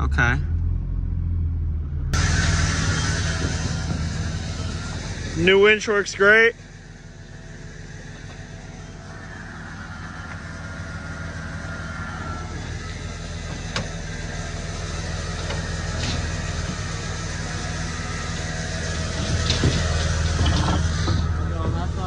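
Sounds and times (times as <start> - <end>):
low engine hum: 0.0 - 22.0
electric winch winding: 2.2 - 22.0.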